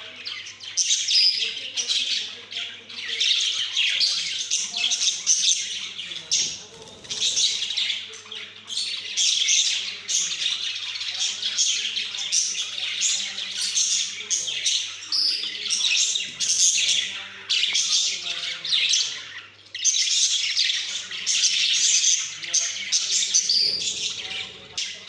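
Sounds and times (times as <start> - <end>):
budgerigars chattering and warbling: 0.0 - 25.0.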